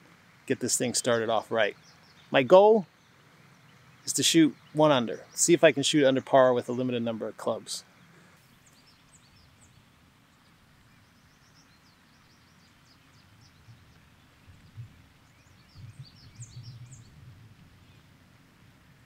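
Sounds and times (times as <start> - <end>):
small birds chirping: 0.2 - 18.2.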